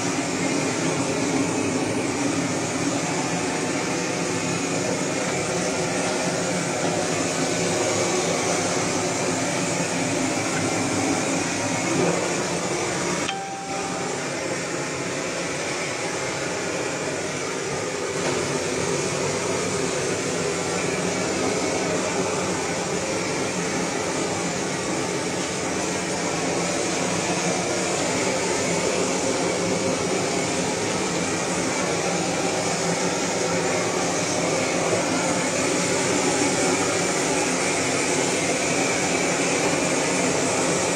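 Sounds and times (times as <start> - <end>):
gas blowtorch burning: 0.0 - 13.4, 14.2 - 40.9.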